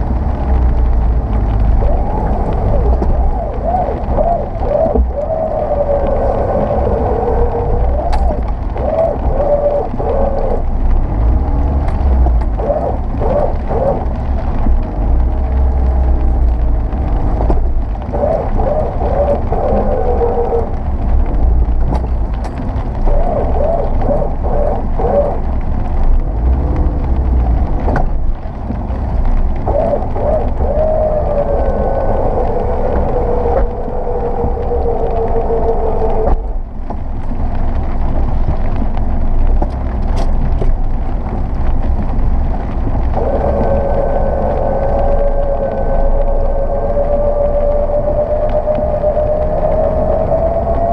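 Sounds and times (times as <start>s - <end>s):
vehicle engine rumble groaning: 0.0s - 50.9s.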